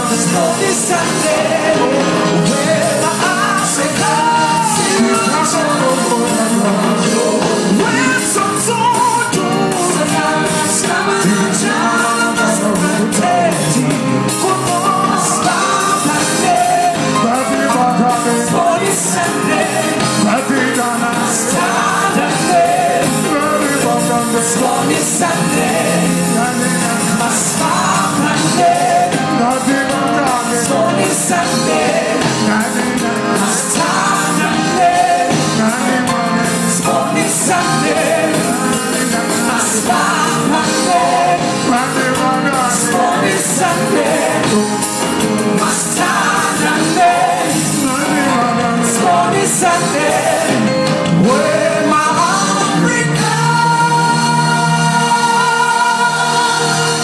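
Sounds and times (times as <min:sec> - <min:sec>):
live band music: 0:00.0 - 0:57.0
people singing into microphones: 0:00.0 - 0:57.0.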